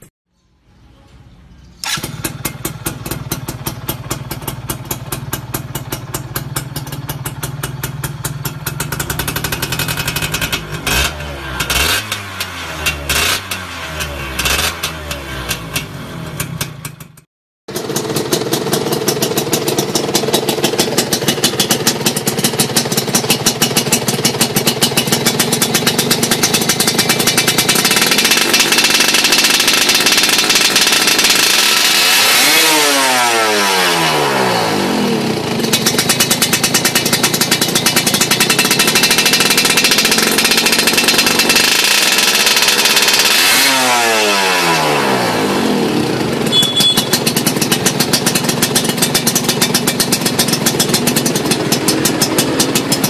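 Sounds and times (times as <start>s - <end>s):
two-stroke motorcycle revving and idling: 1.8s - 53.0s.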